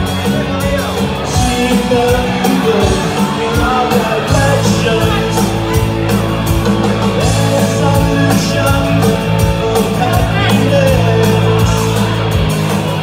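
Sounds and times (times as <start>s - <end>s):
rock band playing loud: 0.0s - 13.0s.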